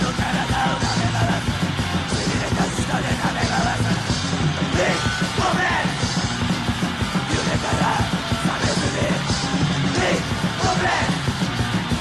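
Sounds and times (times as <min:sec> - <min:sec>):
distorted hardcore punk band: 0:00.0 - 0:12.0
yelled vocals: 0:00.0 - 0:12.0.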